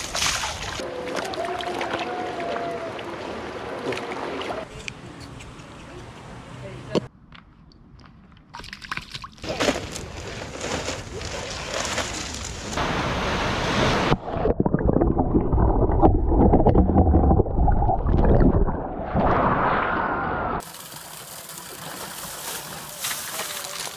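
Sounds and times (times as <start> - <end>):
water splashing in a pool: 0.0 - 4.7, 8.6 - 23.9.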